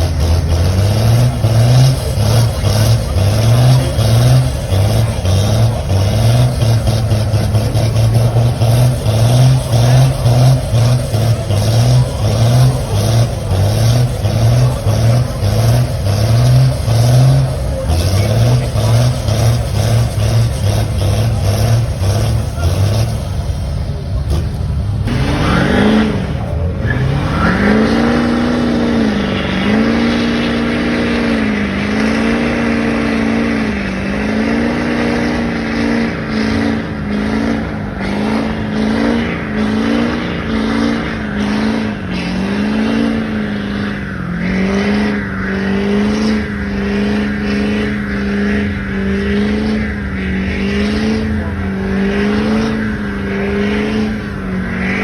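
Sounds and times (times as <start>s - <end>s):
spinning tires hissing: 0.0s - 55.0s
truck engine revving: 0.0s - 55.0s.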